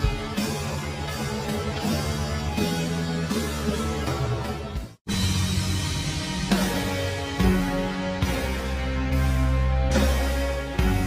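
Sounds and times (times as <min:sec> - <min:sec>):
sped-up music: 0:00.0 - 0:11.0.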